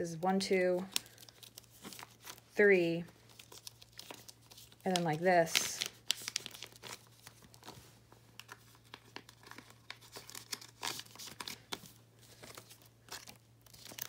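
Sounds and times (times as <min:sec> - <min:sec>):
plastic sleeves crinkling: 0:00.7 - 0:14.0.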